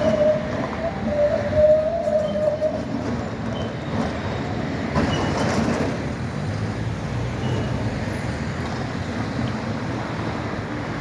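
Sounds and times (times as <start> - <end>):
road traffic: 0.0 - 11.0
tram rumbling on track: 0.0 - 11.0.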